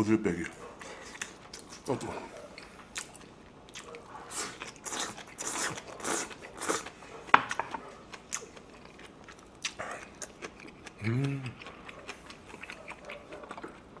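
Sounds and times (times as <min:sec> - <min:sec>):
chewing rice: 0:00.3 - 0:14.0.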